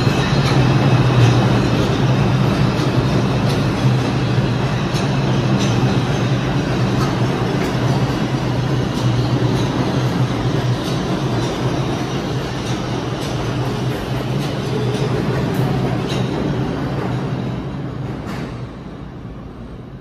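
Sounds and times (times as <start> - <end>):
wheels clicking over rail joints: 0.0 - 17.3
subway train wheels rumbling: 0.0 - 20.0.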